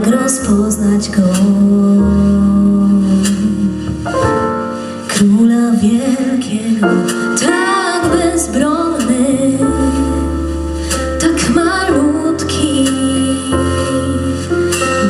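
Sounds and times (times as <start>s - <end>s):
woman singing into microphone: 0.0s - 4.0s, 5.1s - 10.6s, 11.2s - 15.0s
instrumental backing music: 0.0s - 15.0s.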